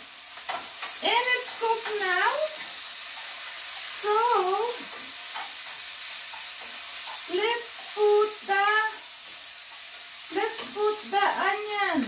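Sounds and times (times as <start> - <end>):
bacon sizzling in a frying pan: 0.0 - 12.0.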